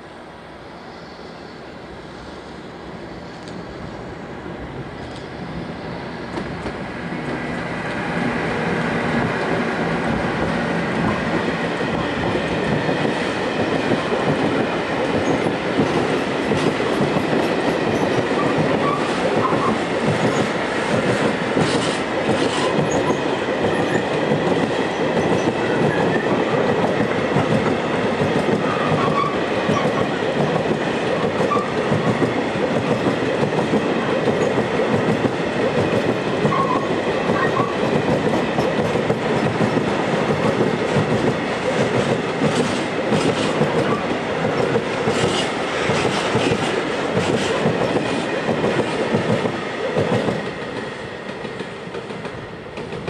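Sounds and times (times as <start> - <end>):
freight train rumble: 0.0 - 53.0.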